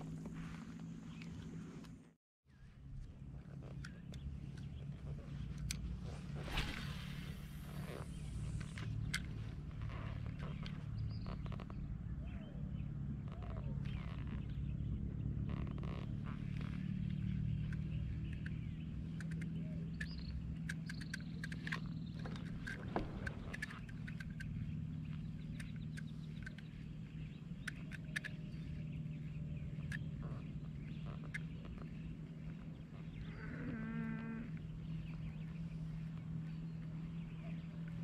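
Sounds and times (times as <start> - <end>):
steady low hum: 0.0 - 38.0
faint clicks and ticks: 3.0 - 6.1, 7.5 - 38.0.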